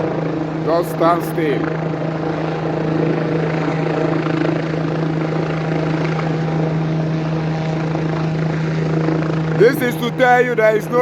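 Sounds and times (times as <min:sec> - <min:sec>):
helicopter hovering: 0:00.0 - 0:11.0.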